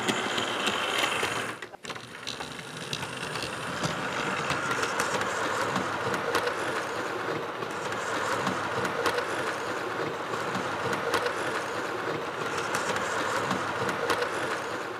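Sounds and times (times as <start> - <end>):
model train running on track: 0.0 - 14.9
wheels clicking over rail joints: 0.0 - 14.9.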